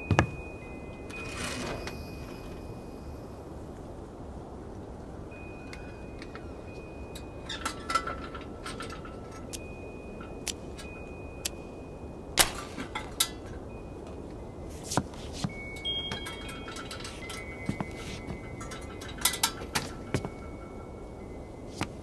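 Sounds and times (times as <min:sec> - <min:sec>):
chime-like clinks: 0:00.0 - 0:03.7, 0:05.3 - 0:22.0
constant hiss: 0:00.0 - 0:22.0
thin high steady tones: 0:00.0 - 0:22.0.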